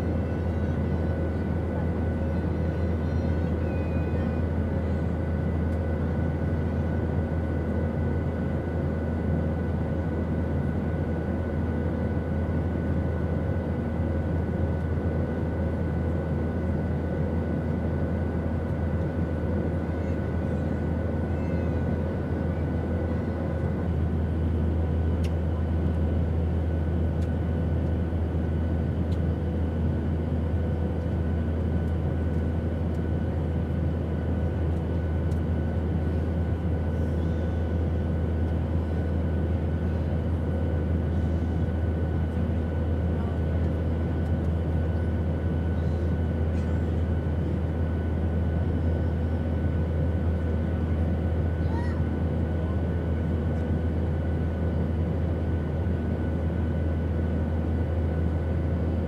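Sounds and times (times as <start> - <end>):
airplane engine rumble: 0.0 - 59.0.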